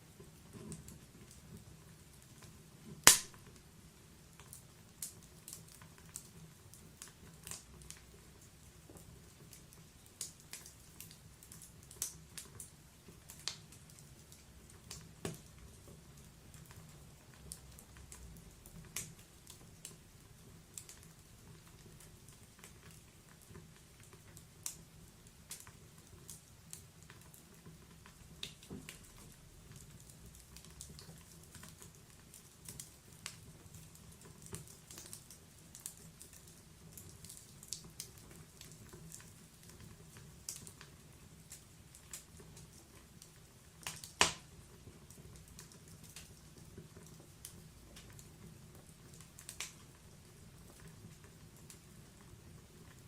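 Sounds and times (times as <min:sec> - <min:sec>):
faint low hiss: 0:00.0 - 0:53.0
log fire crackling: 0:00.0 - 0:53.0.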